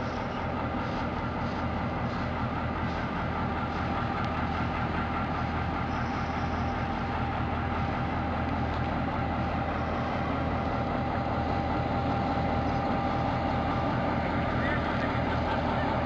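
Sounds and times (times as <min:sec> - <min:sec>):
diesel locomotive engine running: 0:00.0 - 0:16.0
high engine whine: 0:00.0 - 0:16.0.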